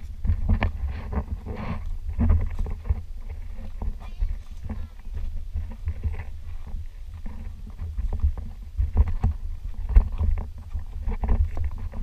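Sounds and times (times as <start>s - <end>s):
footsteps on stony ground: 0.0s - 12.0s
wind rumble on microphone: 0.0s - 12.0s.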